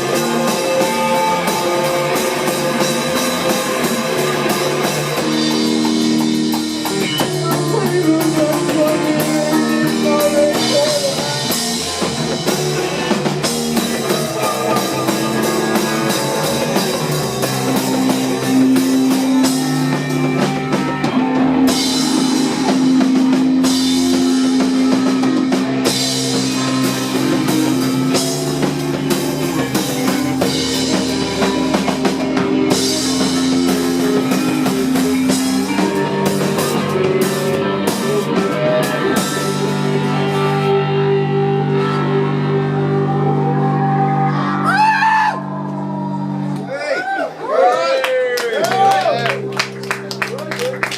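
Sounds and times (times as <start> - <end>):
rock band playing live: 0.0 - 46.7, 48.6 - 50.9.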